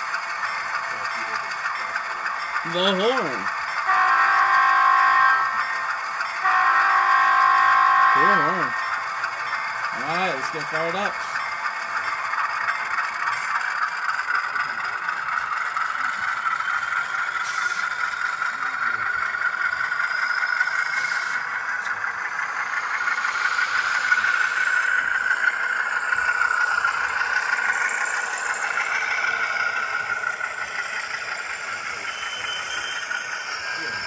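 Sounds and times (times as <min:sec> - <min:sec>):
model train rolling on track: 0:00.0 - 0:34.0.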